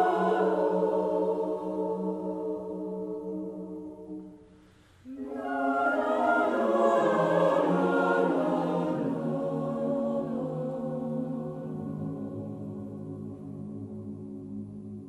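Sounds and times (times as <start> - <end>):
choir singing a cappella: 0.0 - 15.0.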